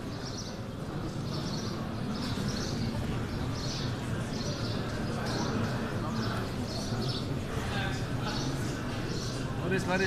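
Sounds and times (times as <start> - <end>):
crowd murmuring in a hall: 0.0 - 10.0.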